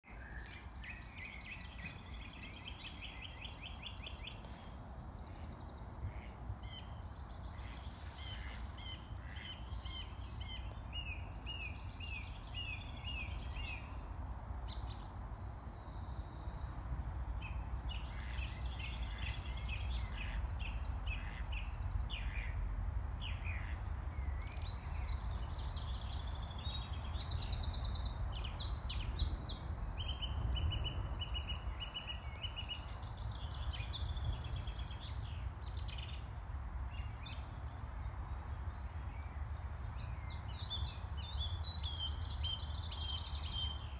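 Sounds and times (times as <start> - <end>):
songbirds singing: 0.1 - 43.9.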